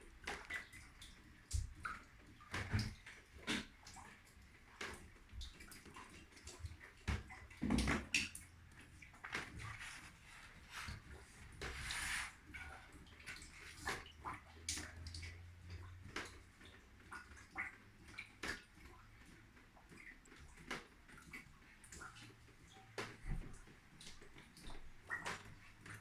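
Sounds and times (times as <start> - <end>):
water drops dripping: 0.0 - 26.0
water splashing: 0.1 - 26.0.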